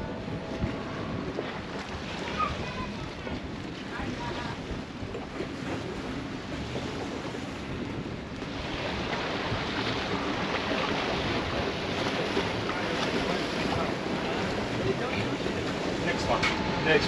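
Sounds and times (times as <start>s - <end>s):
water rushing past hull: 0.0s - 17.0s
wind buffeting microphone: 0.0s - 17.0s.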